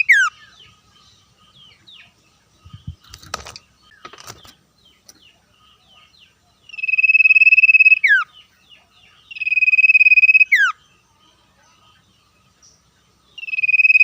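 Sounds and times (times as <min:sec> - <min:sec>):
bird singing rapid trill: 0:00.0 - 0:14.0
faint chirps of other birds: 0:00.0 - 0:14.0.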